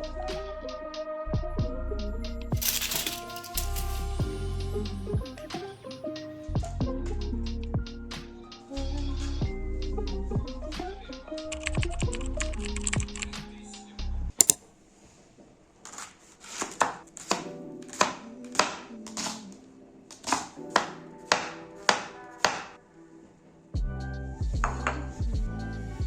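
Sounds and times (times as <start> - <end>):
background music: 0.0 - 14.6, 17.2 - 26.0.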